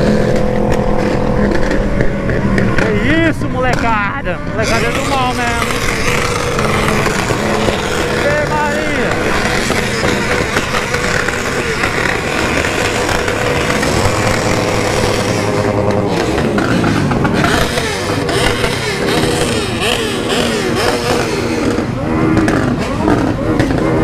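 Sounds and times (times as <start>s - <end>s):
motorcycle engines revving: 0.0s - 24.0s
steady rushing noise: 0.0s - 24.0s.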